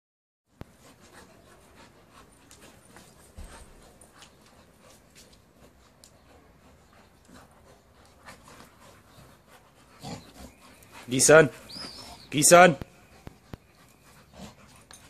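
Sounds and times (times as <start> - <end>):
dogs panting: 0.5 - 15.0.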